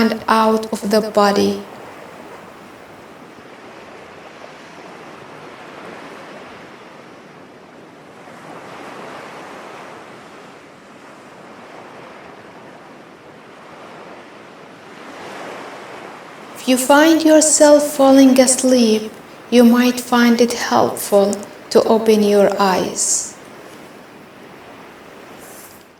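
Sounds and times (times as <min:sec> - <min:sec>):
ocean waves washing ashore: 0:00.0 - 0:25.9.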